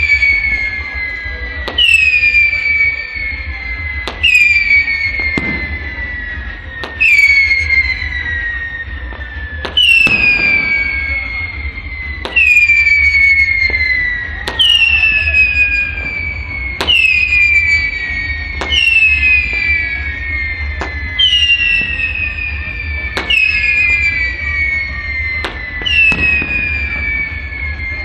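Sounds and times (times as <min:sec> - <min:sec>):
whistle fireworks popping and whistling: 0:00.0 - 0:28.0.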